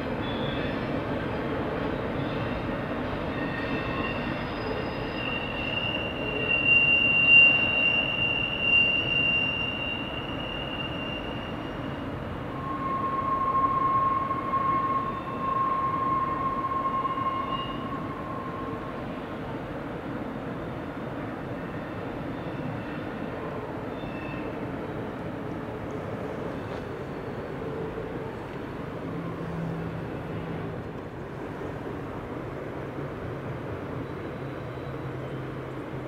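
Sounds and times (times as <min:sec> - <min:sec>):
train wheels squealing: 0:00.0 - 0:19.5, 0:20.4 - 0:25.1, 0:26.2 - 0:30.6, 0:33.8 - 0:36.0
train cars rumbling: 0:00.0 - 0:36.0.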